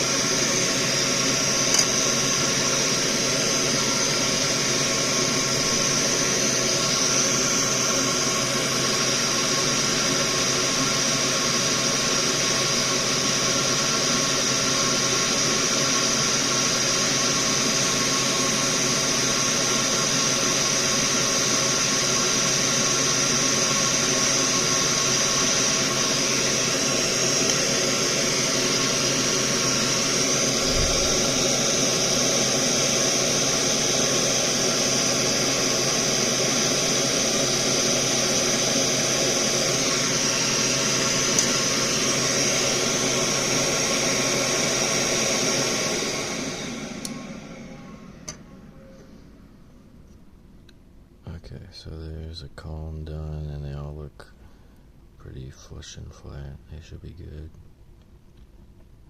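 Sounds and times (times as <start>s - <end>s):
electric fan whirring: 0.0s - 59.0s.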